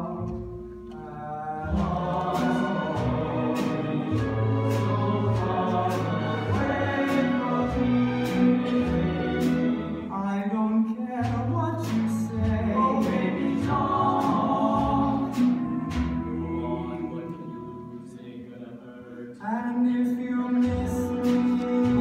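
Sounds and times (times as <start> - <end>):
male voices singing in harmony: 0.0 - 22.0.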